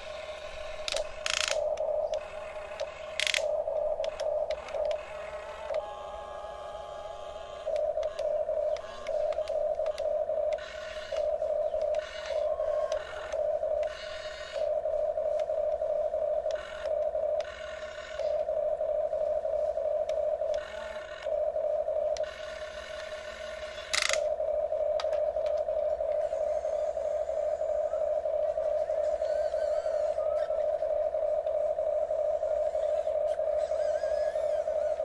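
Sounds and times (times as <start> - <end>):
electric motors and gears whining: 0.0 - 35.0.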